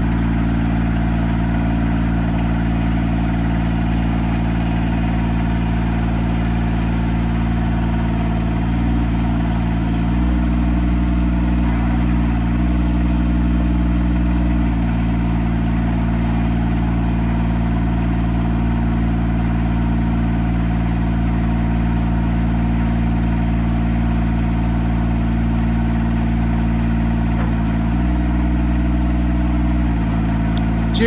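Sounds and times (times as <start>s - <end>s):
lift engine running: 0.0s - 21.6s, 22.4s - 31.0s.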